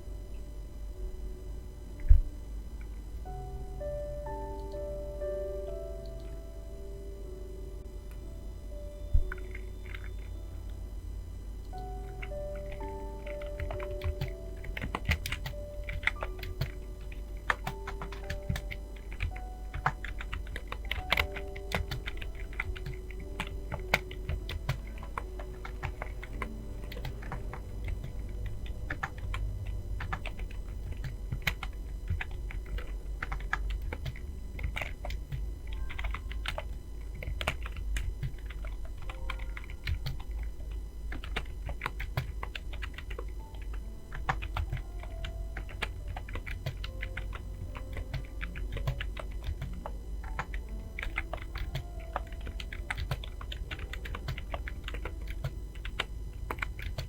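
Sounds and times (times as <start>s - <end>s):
soft background music: 0.0s - 57.0s
fast keyboard typing: 9.2s - 10.5s, 11.7s - 57.0s.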